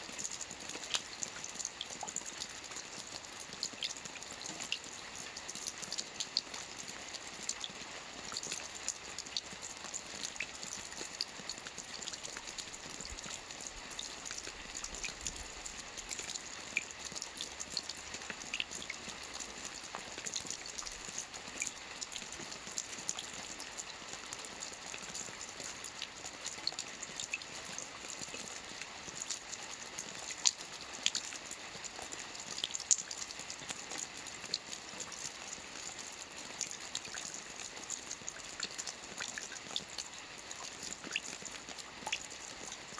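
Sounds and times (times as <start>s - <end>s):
rain falling on a roof: 0.0s - 42.9s.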